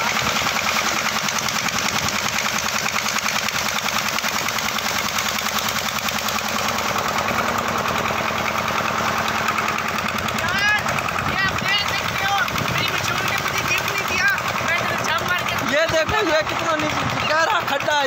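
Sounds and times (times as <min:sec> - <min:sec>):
flywheel engine running: 0:00.0 - 0:18.0.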